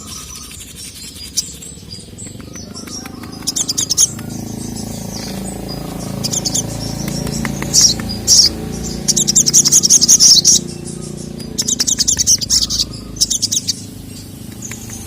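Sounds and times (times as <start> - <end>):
bird sharp high chirps: 0.0 - 15.0.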